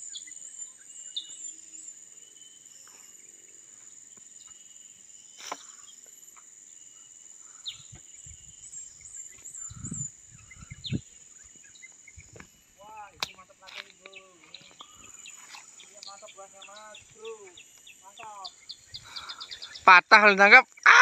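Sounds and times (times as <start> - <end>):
bird chirps: 0.0 - 4.7, 6.7 - 21.0
high-pitched insect drone: 0.0 - 21.0.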